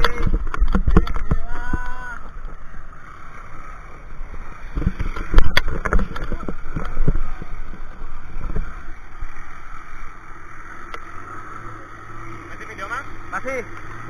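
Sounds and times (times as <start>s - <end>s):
motorboat engine drone: 0.0s - 14.0s.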